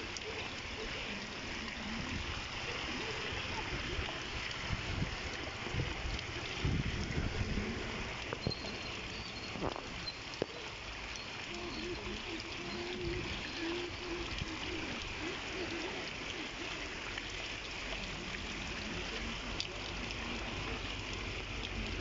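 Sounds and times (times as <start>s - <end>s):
heavy rain pouring: 0.0s - 22.0s
sharp raindrop ticks: 4.0s - 22.0s.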